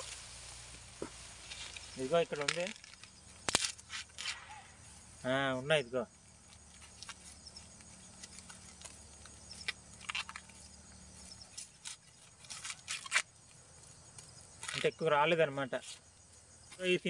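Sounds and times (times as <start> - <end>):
corn husks crackling and rustling: 0.0 - 17.0.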